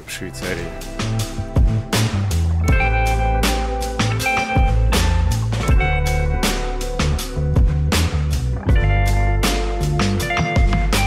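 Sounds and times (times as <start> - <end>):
instrumental music with drum beat: 0.0 - 11.0.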